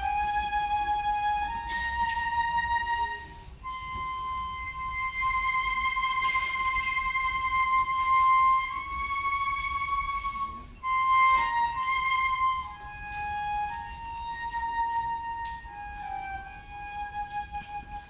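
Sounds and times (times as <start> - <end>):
flute playing held notes: 0.0 - 18.0.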